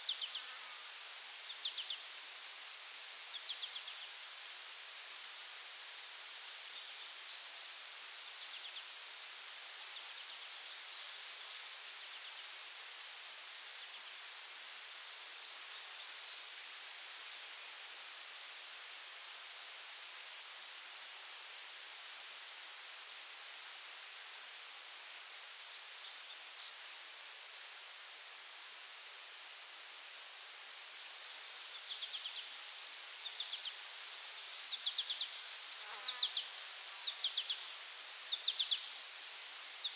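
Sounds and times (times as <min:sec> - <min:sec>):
cricket-like chirps: 0:00.0 - 0:39.9
insect drone: 0:00.0 - 0:39.9
soft hiss: 0:00.0 - 0:39.9.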